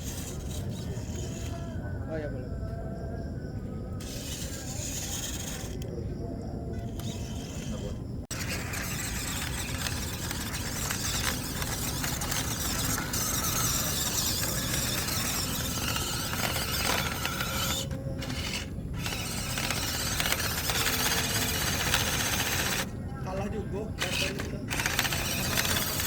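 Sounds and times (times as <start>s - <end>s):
toy car motor whining: 0.0s - 1.8s, 4.0s - 6.0s, 6.7s - 22.9s, 24.0s - 26.0s.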